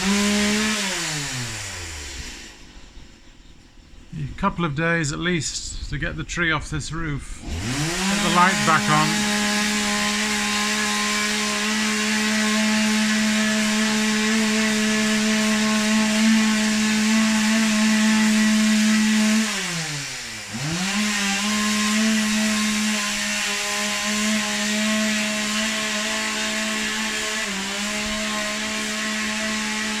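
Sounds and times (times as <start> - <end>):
chainsaw revving: 0.0 - 2.7, 7.4 - 30.0.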